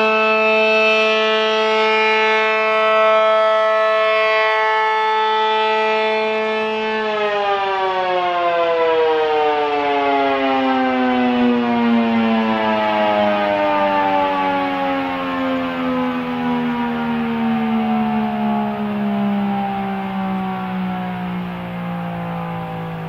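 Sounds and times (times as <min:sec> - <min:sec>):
warning siren winding down: 0:00.0 - 0:23.0.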